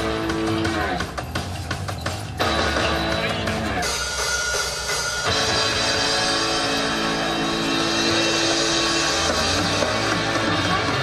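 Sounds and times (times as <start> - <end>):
pop song over loudspeakers: 0.0 - 1.6, 2.3 - 4.2, 5.3 - 11.0.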